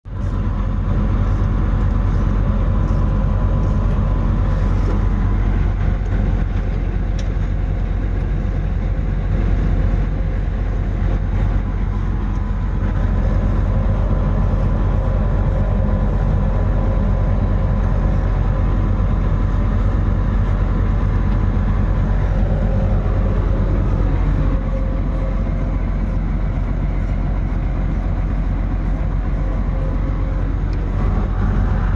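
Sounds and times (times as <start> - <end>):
diesel engine humming: 0.0 - 31.9
thin steady whine: 0.1 - 31.9.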